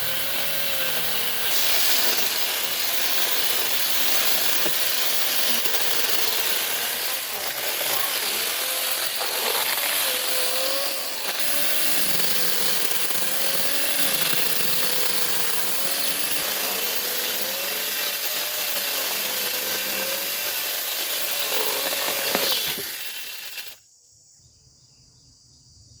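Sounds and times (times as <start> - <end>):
power tool cutting wood: 0.0 - 23.8.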